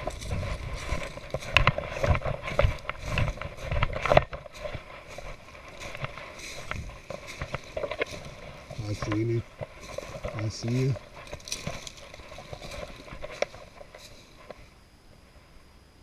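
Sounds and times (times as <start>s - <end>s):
clothing and gear rustling: 0.0s - 14.7s
footsteps crunching through dry leaves: 0.0s - 14.7s.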